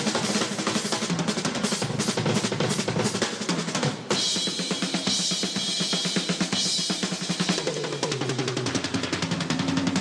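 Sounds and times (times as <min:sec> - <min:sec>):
drum kits playing fast: 0:00.0 - 0:10.0.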